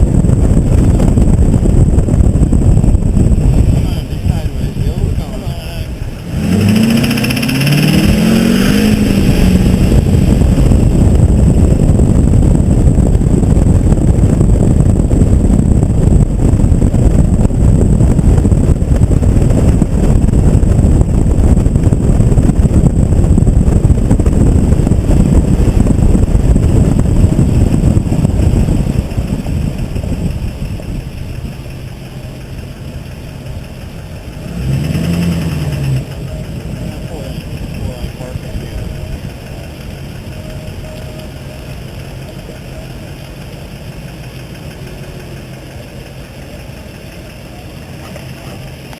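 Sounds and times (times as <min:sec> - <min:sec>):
diesel engine revving: 0:00.0 - 0:48.9
high whine: 0:00.0 - 0:48.9.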